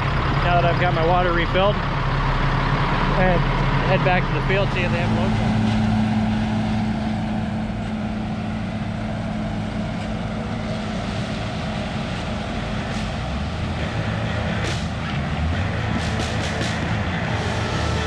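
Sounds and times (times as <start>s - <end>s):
heavy machinery humming: 0.0s - 18.0s.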